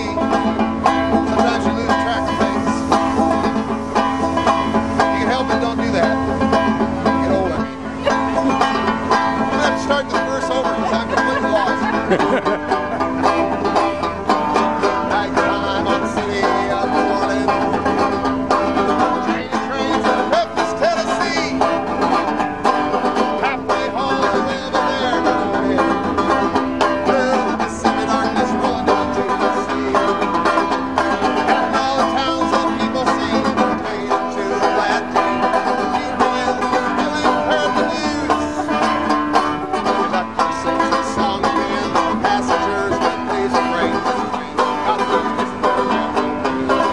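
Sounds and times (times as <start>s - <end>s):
bluegrass music with plucked banjo: 0.0s - 46.9s.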